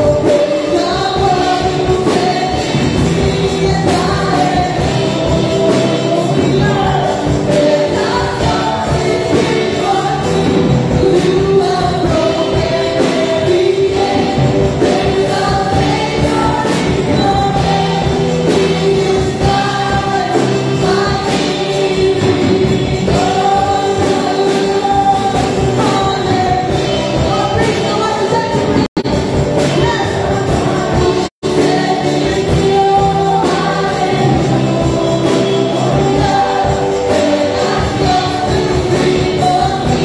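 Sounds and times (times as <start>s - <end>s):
live band playing: 0.0s - 40.0s
woman singing through microphone: 0.0s - 40.0s.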